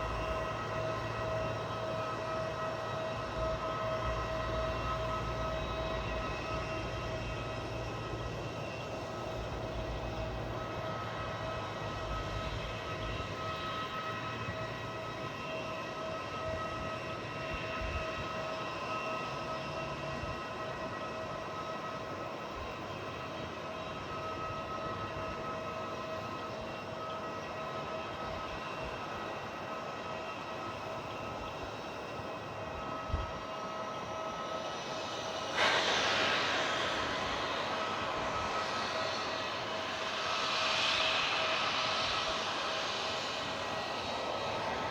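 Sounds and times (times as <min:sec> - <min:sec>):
airliner engines whining: 0:00.0 - 0:44.9.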